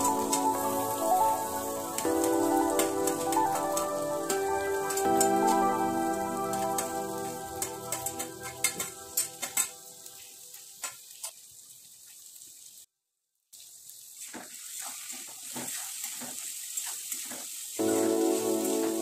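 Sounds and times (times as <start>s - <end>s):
vegetables sizzling in oil: 0.0s - 12.9s, 13.6s - 19.0s.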